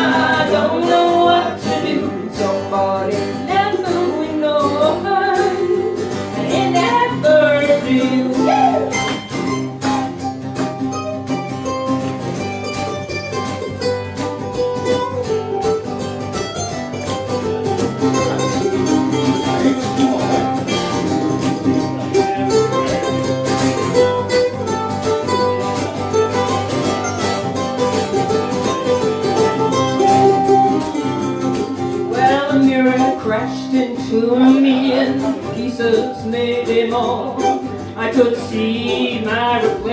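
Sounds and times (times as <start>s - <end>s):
live folk band playing: 0.0s - 39.9s
plucked string melody: 0.0s - 39.9s.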